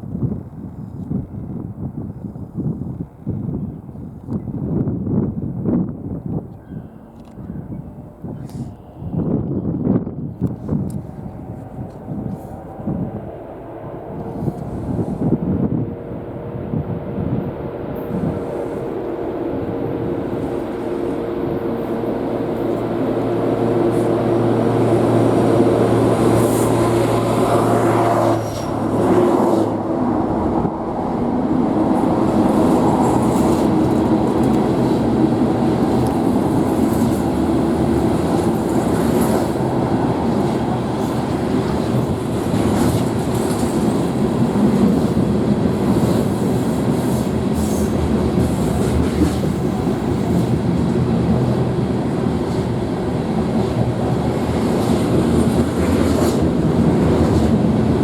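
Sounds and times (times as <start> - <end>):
diesel locomotive engines droning: 0.7 - 58.0
freight cars rumbling and clattering: 9.3 - 58.0.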